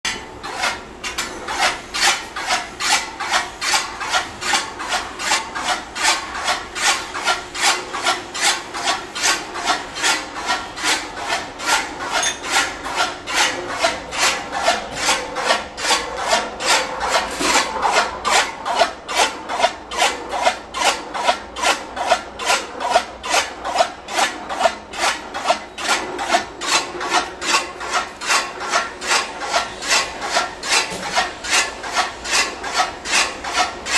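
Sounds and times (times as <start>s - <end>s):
chaff cutter rhythmic rasping scrape: 0.1s - 33.9s.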